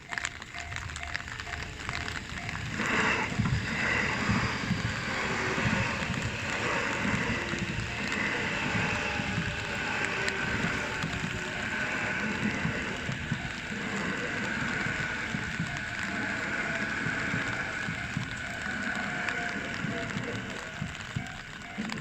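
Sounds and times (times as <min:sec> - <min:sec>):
faint whine: 0:00.0 - 0:22.0
train wheels clattering on rail: 0:00.0 - 0:22.0.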